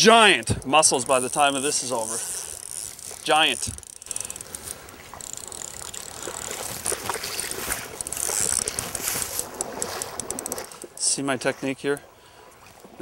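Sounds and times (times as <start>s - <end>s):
fly reel clicking rapidly: 0.1s - 11.1s.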